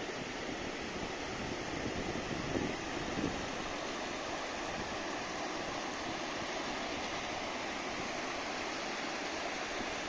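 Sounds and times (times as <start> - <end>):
river rapids roaring over rocks: 0.1 - 10.0.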